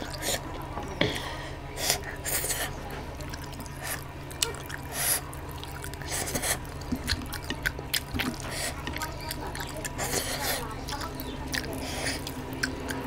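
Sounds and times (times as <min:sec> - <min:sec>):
lip smacking: 0:00.0 - 0:13.0
wet chewing: 0:00.0 - 0:13.0.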